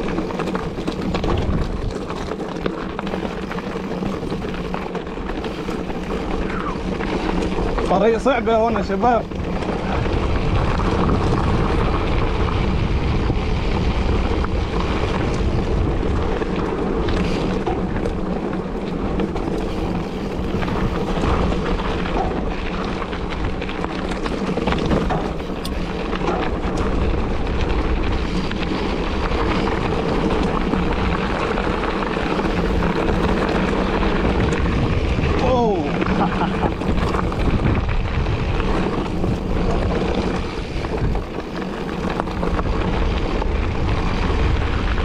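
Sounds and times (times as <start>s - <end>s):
mountain bike on rocky trail: 0.0s - 45.0s
wind over microphone: 0.0s - 45.0s.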